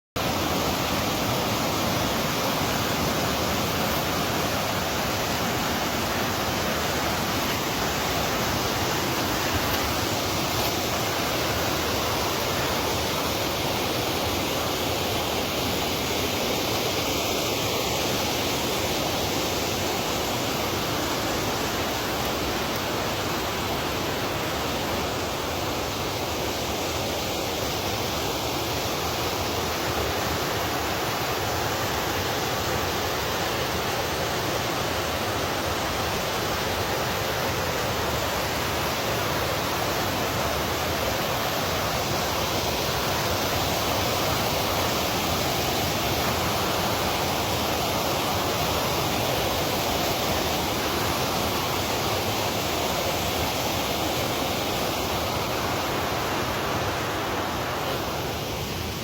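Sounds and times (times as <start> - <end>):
steady rushing noise: 0.2 - 59.0.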